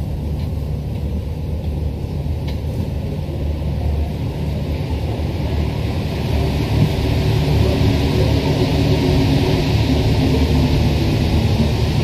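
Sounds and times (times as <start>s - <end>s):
train approaching: 0.0s - 12.0s
train rumbling in tunnel: 0.0s - 12.0s.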